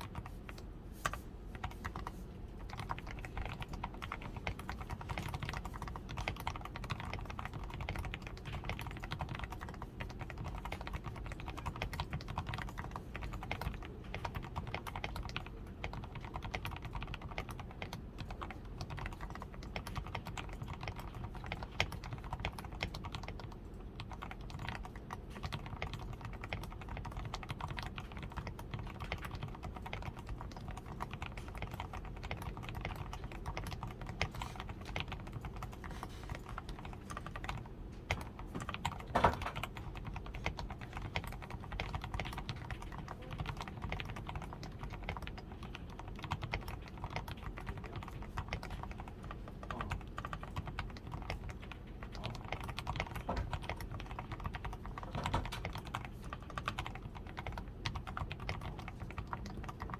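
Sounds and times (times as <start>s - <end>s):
typing on mechanical keyboard: 0.0s - 59.9s.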